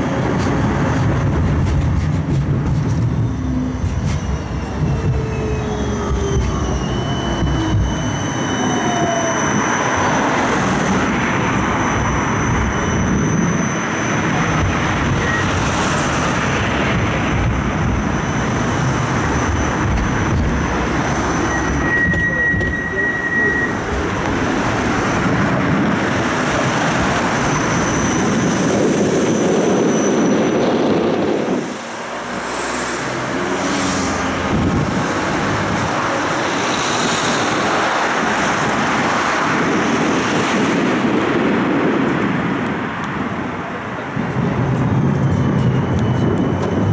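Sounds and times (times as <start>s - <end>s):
tram wheels rumbling: 0.0s - 46.9s.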